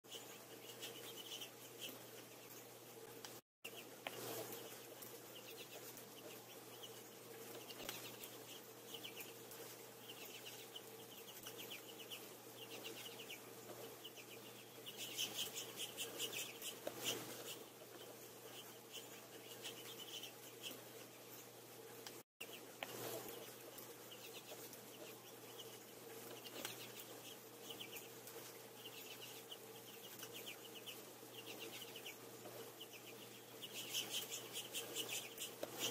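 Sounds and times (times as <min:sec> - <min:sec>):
finches chirping: 0:00.1 - 0:02.7, 0:03.7 - 0:21.5, 0:22.4 - 0:35.9
steady low hum: 0:00.1 - 0:35.9.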